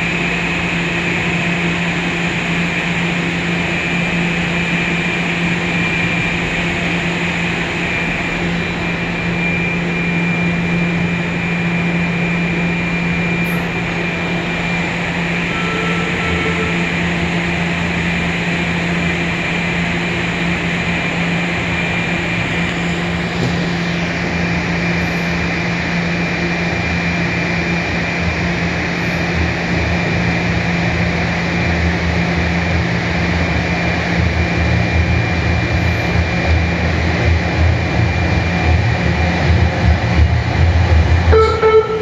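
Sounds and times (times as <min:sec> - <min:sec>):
constant hum: 0:00.0 - 0:42.0
subway train rumbling in tunnel: 0:00.0 - 0:42.0.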